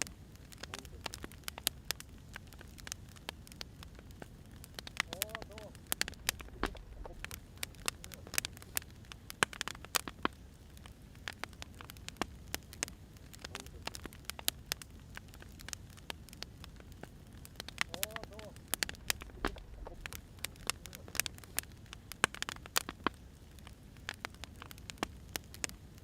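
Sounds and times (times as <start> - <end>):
firewood popping and snapping: 0.0 - 26.0
low rumble of flames: 0.0 - 26.0.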